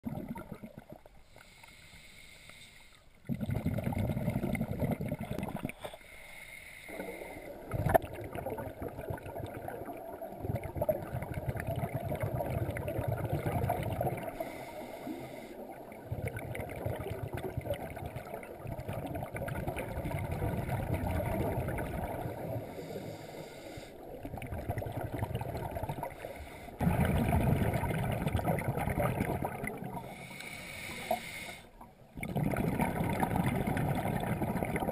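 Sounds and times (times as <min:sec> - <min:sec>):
underwater bubbles gurgling: 0:00.0 - 0:01.6, 0:03.2 - 0:06.0, 0:06.9 - 0:34.9.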